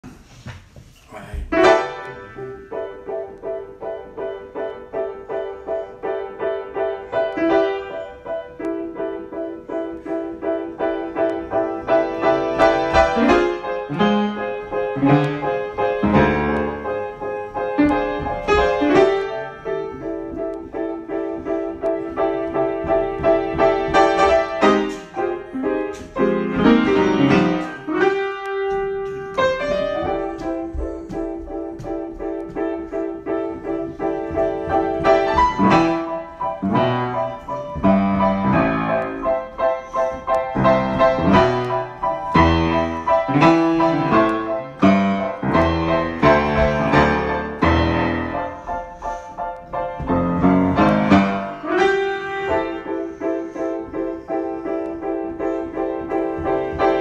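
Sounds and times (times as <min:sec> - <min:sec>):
grand piano improvisation: 0:00.0 - 0:57.0.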